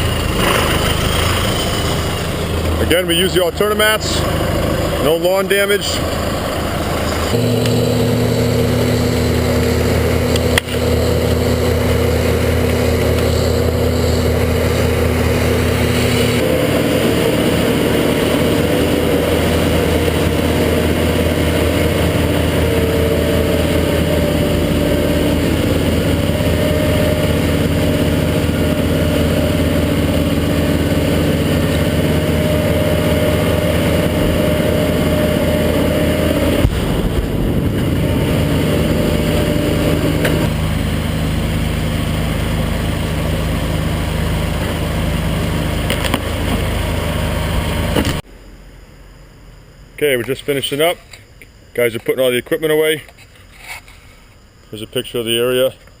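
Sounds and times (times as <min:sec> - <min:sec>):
wood chipper engine running: 0:00.0 - 0:48.2.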